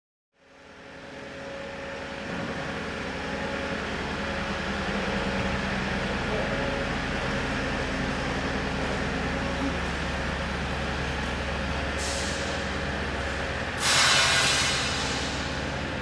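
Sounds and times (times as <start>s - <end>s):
hangar ambience hum: 0.4s - 16.0s.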